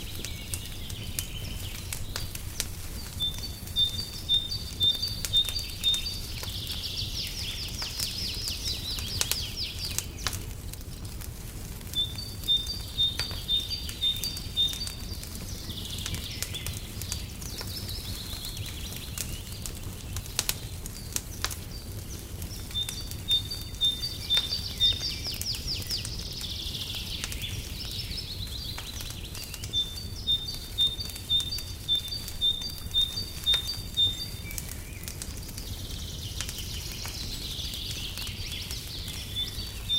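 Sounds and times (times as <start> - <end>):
songbird chirping and trilling: 0.0 - 11.2, 11.8 - 39.9
fireplace crackling and popping: 0.0 - 39.9.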